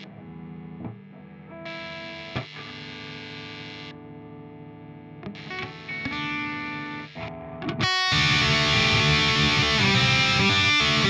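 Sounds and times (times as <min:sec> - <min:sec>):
distorted electric guitar: 0:01.7 - 0:11.0.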